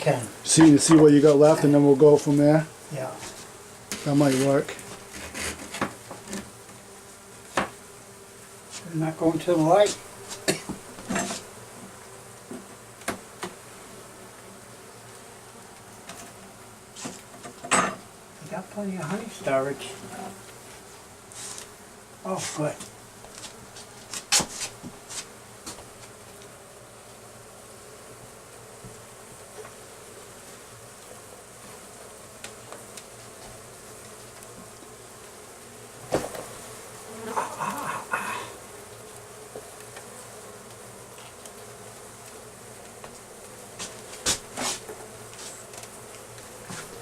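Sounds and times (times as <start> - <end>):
honey bees buzzing: 0.0 - 47.0.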